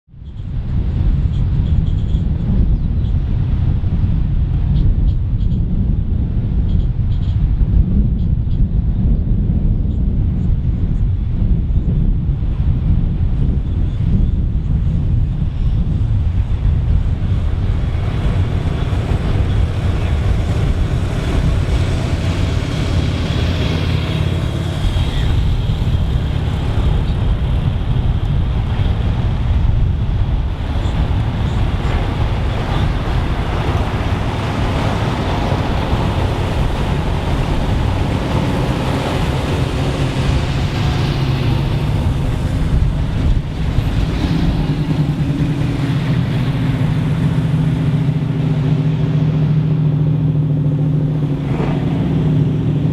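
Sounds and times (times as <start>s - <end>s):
car engines through open exhaust: 0.2s - 52.9s.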